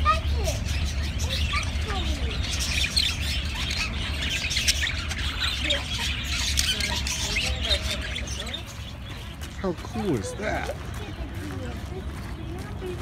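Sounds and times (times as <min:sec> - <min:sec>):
budgerigars chattering and squawking: 0:00.0 - 0:13.0.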